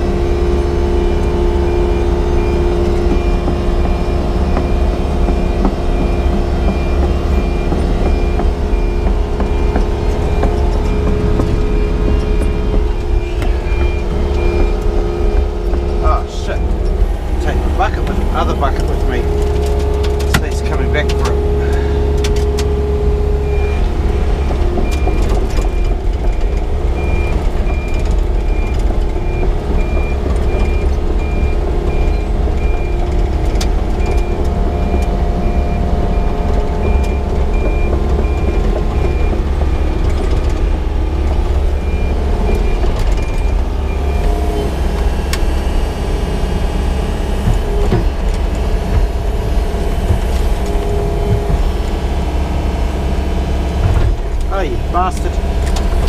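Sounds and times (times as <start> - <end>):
reversing alarm beeping: 0.0 - 54.0
diesel excavator engine rumbling: 0.0 - 56.0.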